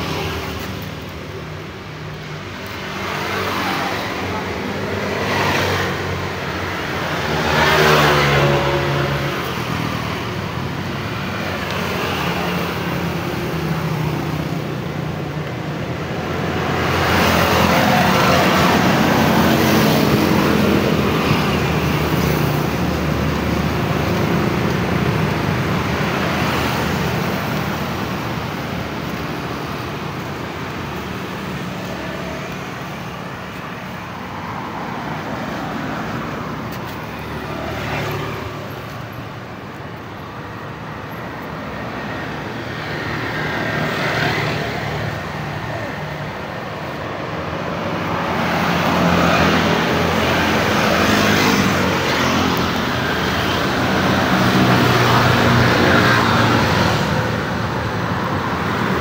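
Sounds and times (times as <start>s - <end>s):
hum of traffic: 0.0s - 59.0s
vehicles passing: 0.0s - 59.0s.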